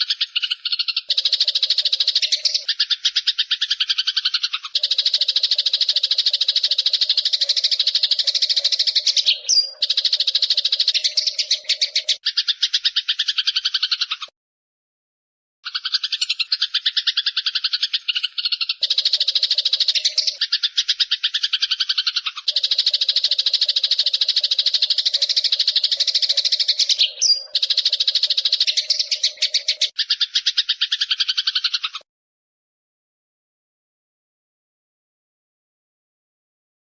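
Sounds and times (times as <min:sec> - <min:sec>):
bird whistle: 0:00.0 - 0:14.1, 0:16.2 - 0:32.0
sparrow chirping: 0:00.0 - 0:14.3, 0:15.6 - 0:32.0.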